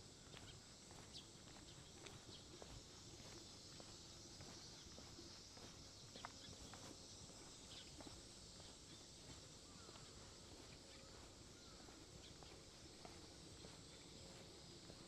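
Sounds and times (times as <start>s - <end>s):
high outdoor hiss: 0.0s - 15.0s
footsteps on pavement: 0.1s - 15.0s.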